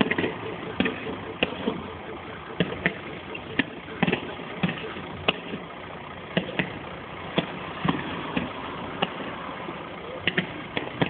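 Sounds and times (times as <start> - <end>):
background rumble: 0.0 - 11.0.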